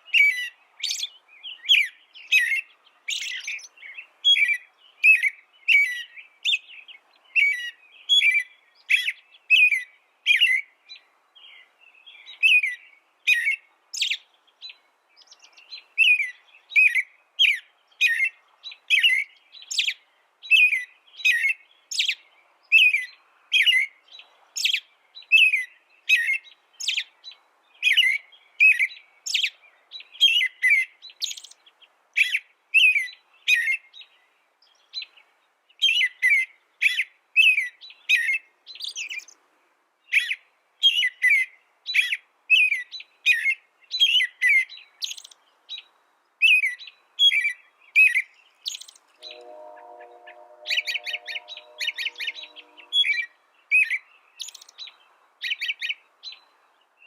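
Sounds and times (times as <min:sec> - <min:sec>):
small bird chirping: 0:00.0 - 0:09.8, 0:12.2 - 0:22.2, 0:22.8 - 0:34.1, 0:38.2 - 0:39.4, 0:40.1 - 0:49.4, 0:50.6 - 0:56.5.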